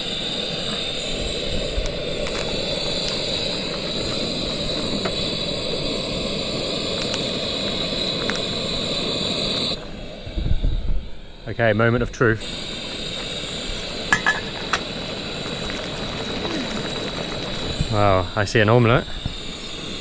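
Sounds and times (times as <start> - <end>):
gas stove burner hissing: 0.0 - 20.0.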